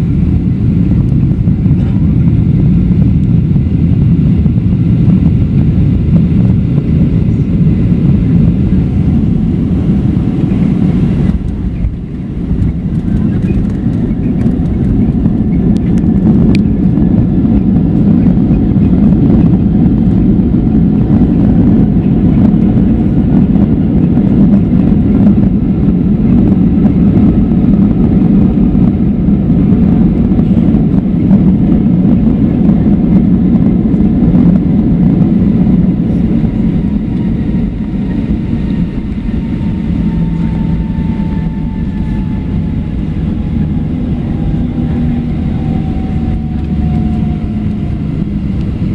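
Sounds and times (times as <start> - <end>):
jet engines roaring: 0.0 - 48.9
faint whine falling in pitch: 6.5 - 48.9.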